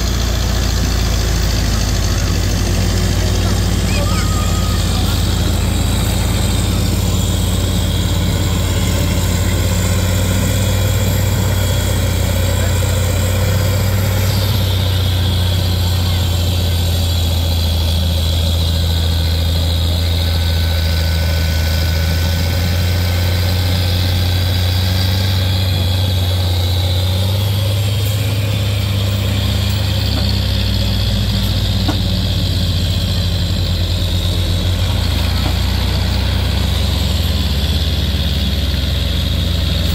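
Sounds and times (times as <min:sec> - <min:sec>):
diesel engines under heavy load: 0:00.0 - 0:39.9.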